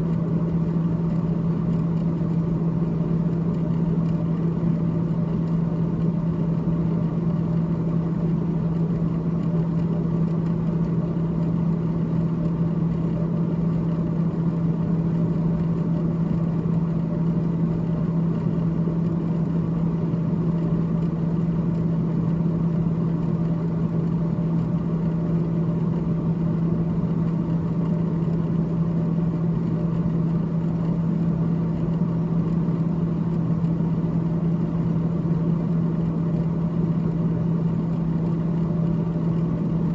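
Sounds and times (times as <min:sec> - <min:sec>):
freezer fan humming: 0:00.0 - 0:39.9.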